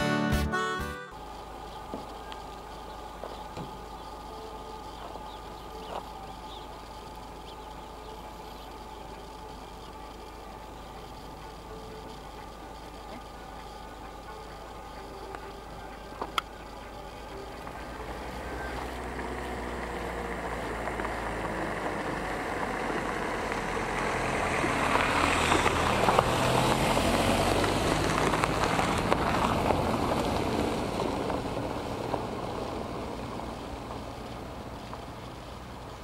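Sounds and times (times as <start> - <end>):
vehicle engine passing by: 1.2 - 36.0.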